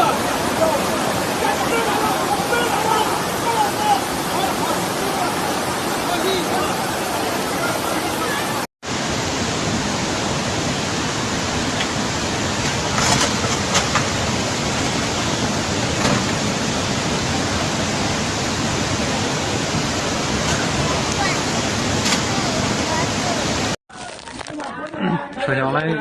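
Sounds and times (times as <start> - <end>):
rushing water hiss: 0.0 - 23.8.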